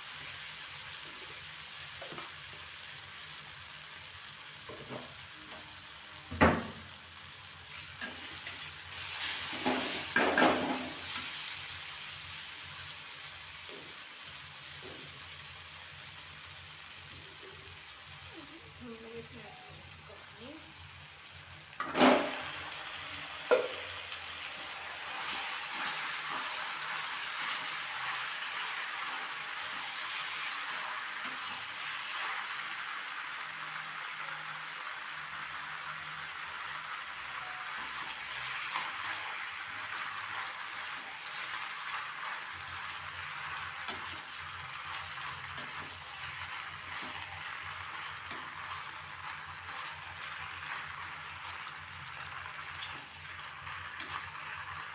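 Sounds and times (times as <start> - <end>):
food sizzling in a pan: 0.0 - 54.9.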